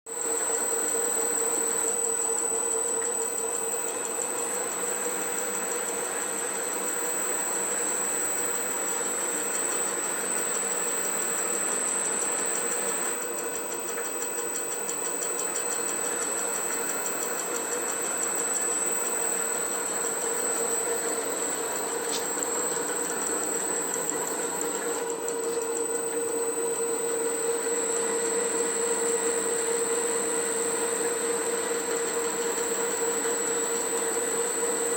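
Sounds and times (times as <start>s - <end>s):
machine whining: 0.1s - 34.9s.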